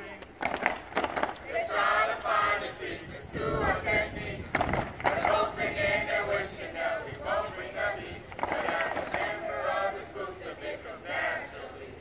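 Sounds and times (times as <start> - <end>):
group chanting in unison: 1.4 - 12.0.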